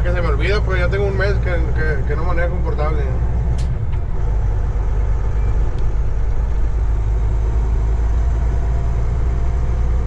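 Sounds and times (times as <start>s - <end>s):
truck diesel engine drone: 0.0s - 10.0s.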